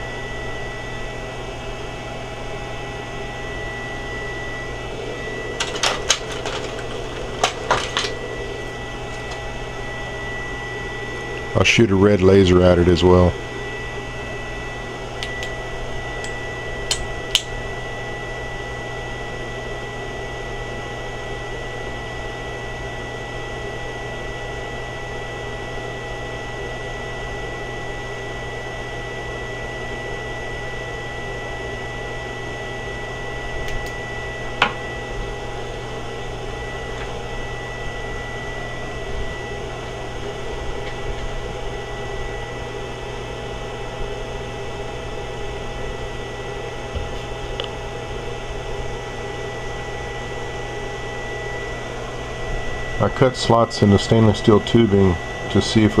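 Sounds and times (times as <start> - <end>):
circuit and cooling fan humming: 0.0 - 56.0.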